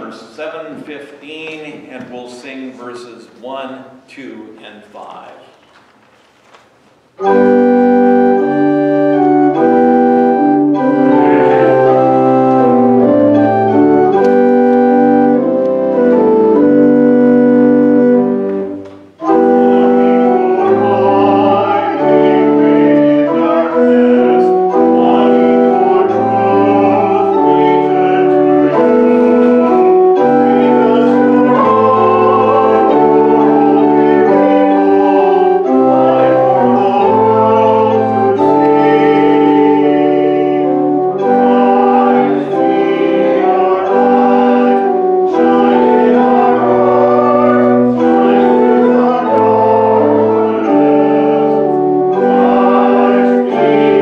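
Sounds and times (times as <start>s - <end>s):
church organ playing hymn: 0.0s - 3.6s, 7.1s - 54.0s.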